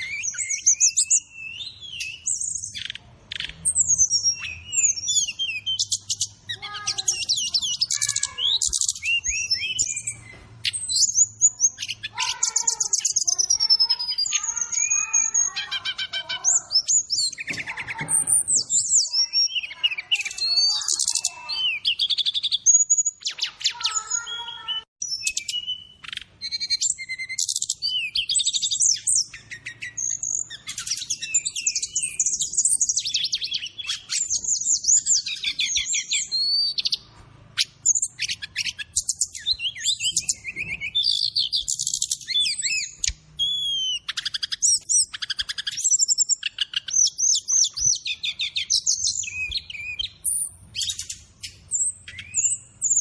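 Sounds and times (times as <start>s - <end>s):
bird chirping and trilling: 0.0s - 53.0s.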